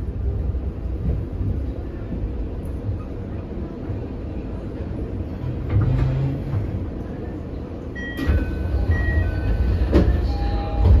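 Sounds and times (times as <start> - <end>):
subway car low rumble: 0.0 - 11.0.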